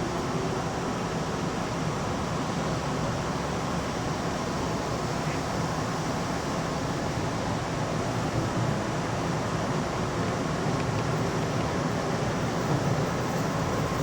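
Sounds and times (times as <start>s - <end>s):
train interior rumble and hiss: 0.0s - 14.0s.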